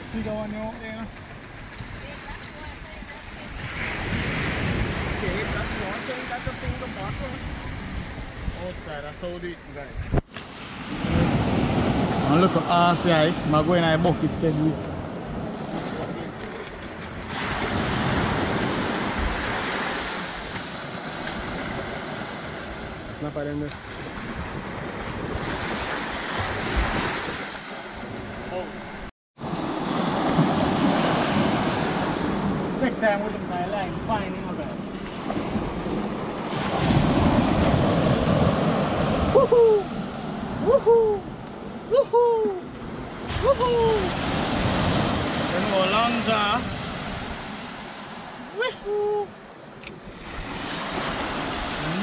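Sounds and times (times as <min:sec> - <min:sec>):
small waves washing on sand: 0:00.0 - 0:09.4, 0:10.3 - 0:41.8, 0:42.7 - 0:52.0
wind buffeting microphone: 0:00.0 - 0:49.2.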